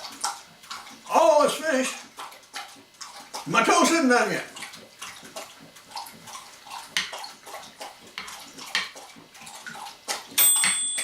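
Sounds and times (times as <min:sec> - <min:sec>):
dog lapping water: 0:00.0 - 0:10.4.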